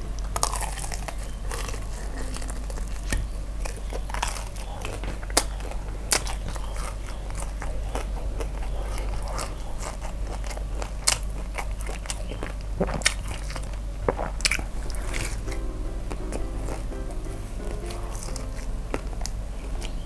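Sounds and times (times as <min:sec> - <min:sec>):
chewing food: 0:00.2 - 0:16.8.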